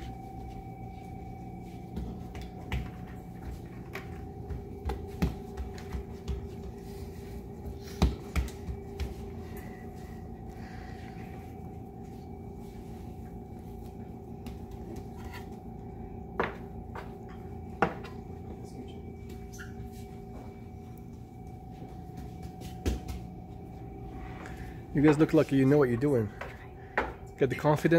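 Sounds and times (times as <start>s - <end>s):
kitchen equipment humming: 0.0s - 27.9s.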